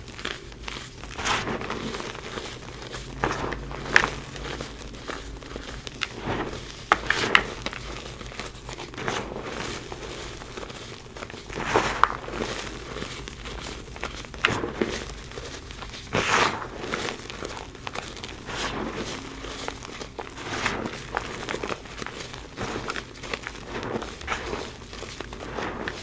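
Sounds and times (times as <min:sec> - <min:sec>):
chalk being crushed by hand: 0:00.0 - 0:26.0.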